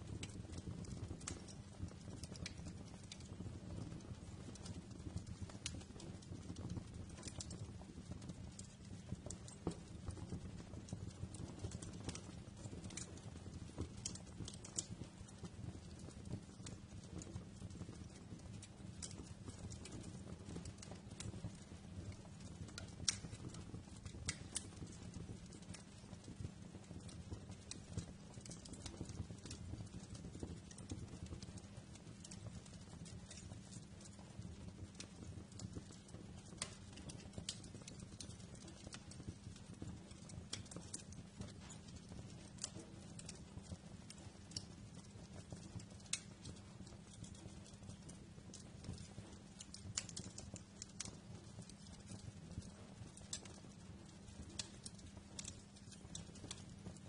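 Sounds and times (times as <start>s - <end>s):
fire crackling and popping: 0.0s - 57.0s
low rumble of burning: 0.0s - 57.0s.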